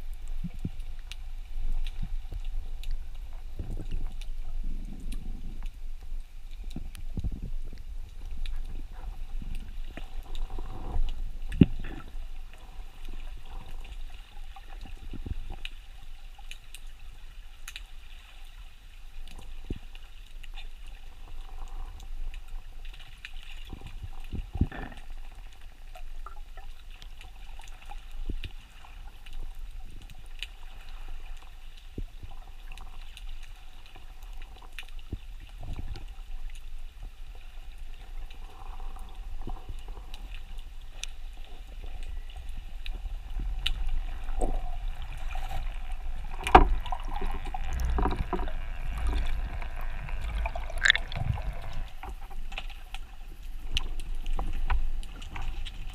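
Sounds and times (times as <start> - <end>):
underwater rumble of moving water: 0.0 - 55.9.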